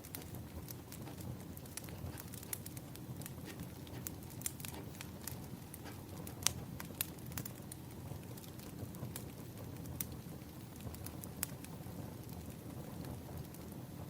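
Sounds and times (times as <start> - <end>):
firewood crackling and popping: 0.0 - 14.0
low steady rush of fire: 0.0 - 14.0.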